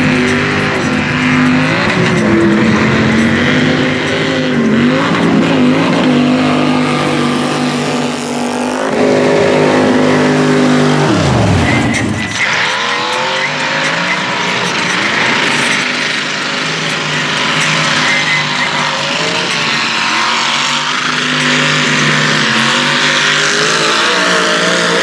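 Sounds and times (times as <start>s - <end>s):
truck engines revving: 0.0s - 25.0s.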